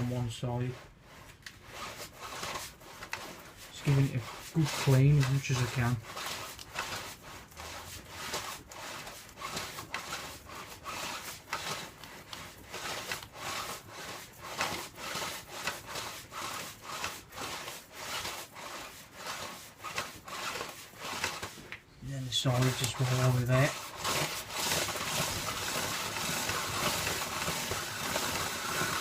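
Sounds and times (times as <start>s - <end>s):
stiff brush scrubbing chain: 0.0s - 29.0s.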